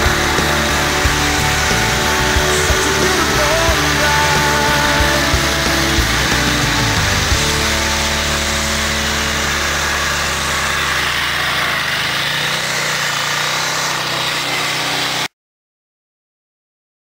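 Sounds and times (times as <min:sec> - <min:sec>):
atv engine running: 0:00.0 - 0:15.3.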